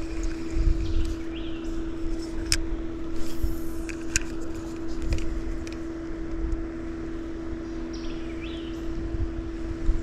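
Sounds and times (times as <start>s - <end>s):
small electric motor humming: 0.0s - 10.0s
wind rumbling on microphone: 0.0s - 10.0s.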